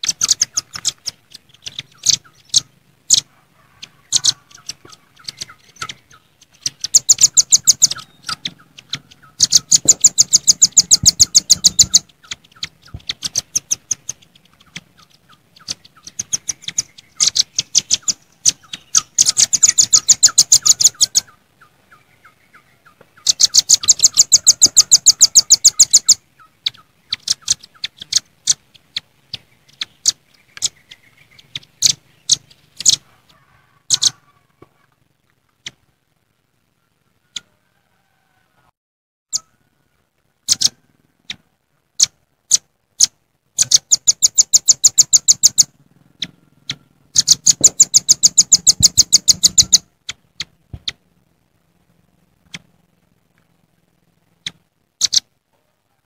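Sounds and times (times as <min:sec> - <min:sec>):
nuthatches calling: 0:00.0 - 0:34.8, 0:40.4 - 0:41.4, 0:42.0 - 0:51.0, 0:54.4 - 0:55.3.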